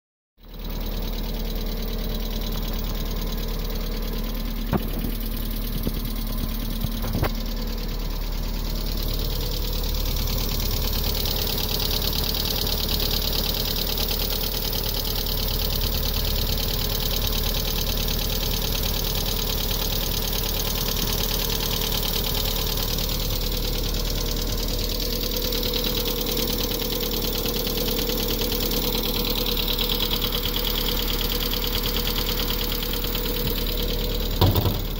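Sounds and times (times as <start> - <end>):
car engine running: 0.4 - 34.9.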